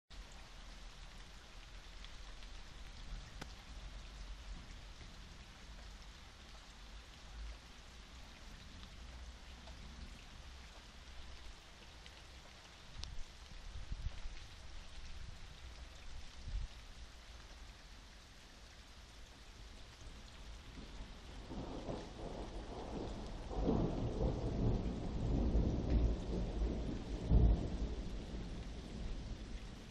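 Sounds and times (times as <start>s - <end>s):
heavy rain falling: 0.1s - 29.9s.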